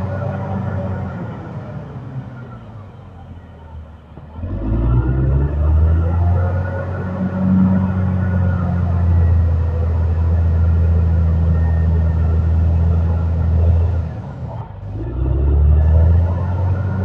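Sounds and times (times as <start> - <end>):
bulldozer diesel engine rumbling: 0.0 - 17.0.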